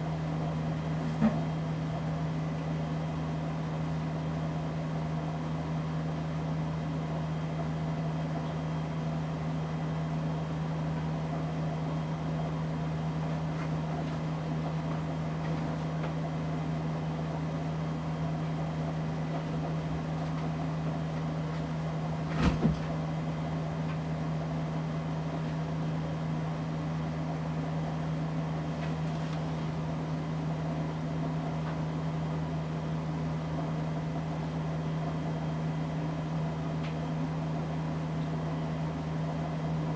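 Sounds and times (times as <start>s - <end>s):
ceiling fan motor humming: 0.0s - 39.9s.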